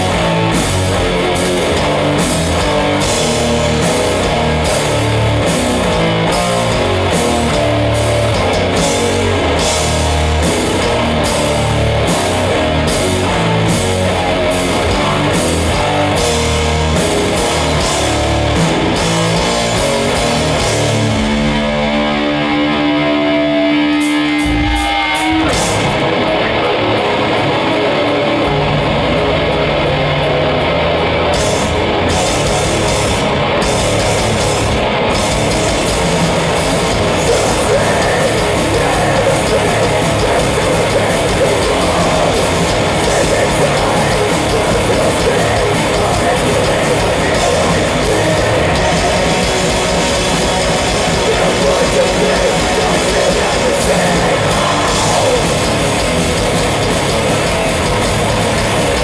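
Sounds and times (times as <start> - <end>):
electric guitar sliding in pitch: 0.0 - 59.0
heavy metal band playing live: 0.0 - 59.0.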